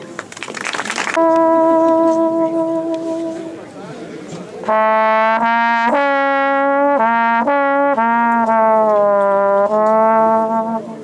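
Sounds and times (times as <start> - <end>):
trombone melody: 1.1 - 3.8, 4.6 - 11.0.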